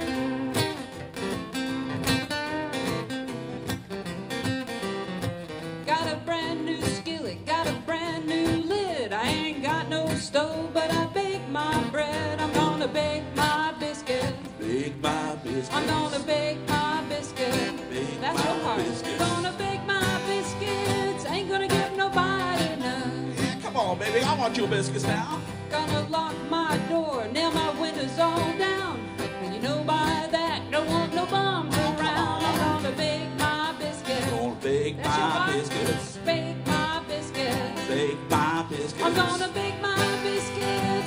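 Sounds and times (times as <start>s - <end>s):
acoustic guitars playing blues: 0.0s - 41.0s
woman singing: 5.8s - 23.6s, 25.6s - 41.0s.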